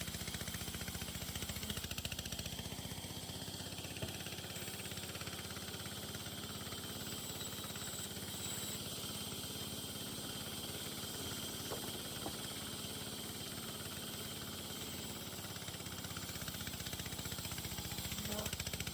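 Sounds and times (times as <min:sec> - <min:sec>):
engine running steadily: 0:00.0 - 0:18.9.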